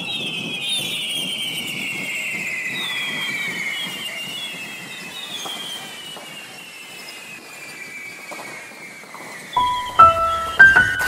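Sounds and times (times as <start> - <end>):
firework hiss: 0.0 - 11.0
shrill whistling fireworks: 0.0 - 11.0.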